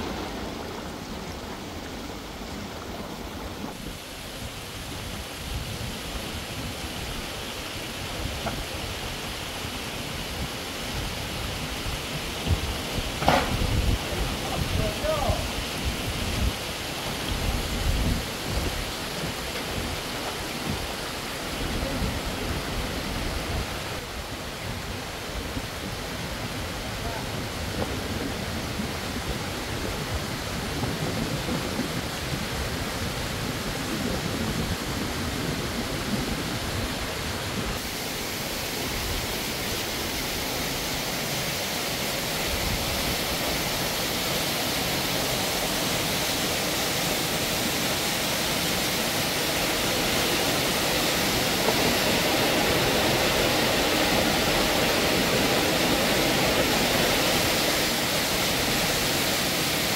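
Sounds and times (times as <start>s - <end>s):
waterfall over boulders: 0.0s - 59.9s.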